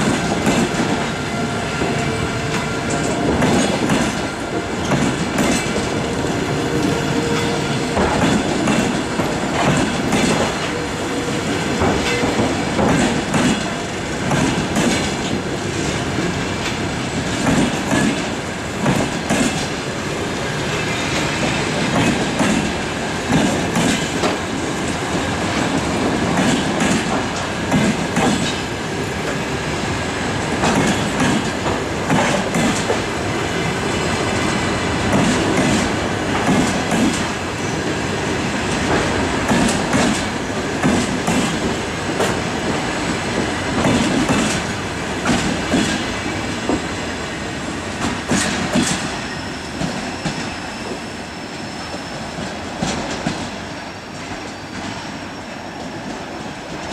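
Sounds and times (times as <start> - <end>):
train wheels clattering over rail joints: 0.0 - 1.2, 1.8 - 19.8, 20.7 - 29.5, 30.4 - 33.2, 33.8 - 37.4, 38.6 - 47.0, 47.9 - 51.0, 52.4 - 53.6.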